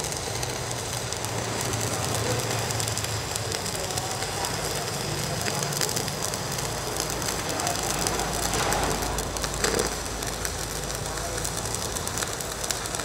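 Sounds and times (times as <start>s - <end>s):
welding arcs crackling: 0.0s - 13.0s.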